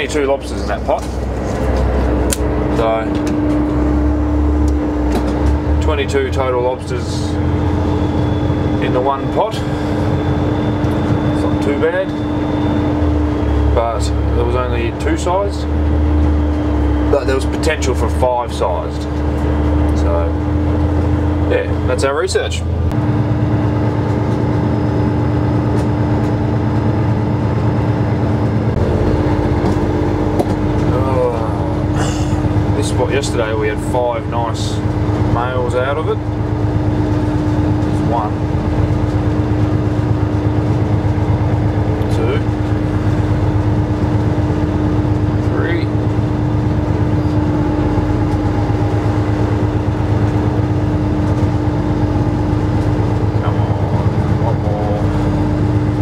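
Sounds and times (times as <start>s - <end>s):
boat engine droning: 0.0s - 56.0s
constant hum on one note: 0.0s - 56.0s.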